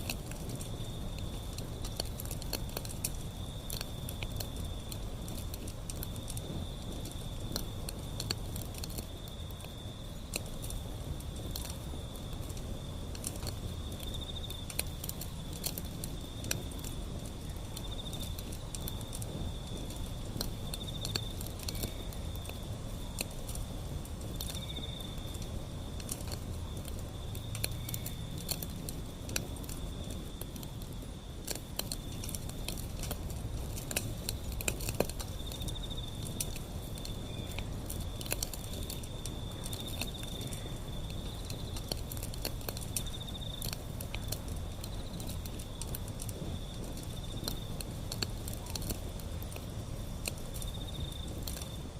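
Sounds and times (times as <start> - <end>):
insect trilling: 0.0 - 51.9
low rumble of flames: 0.0 - 51.9
wood fire crackling and popping: 0.0 - 51.9.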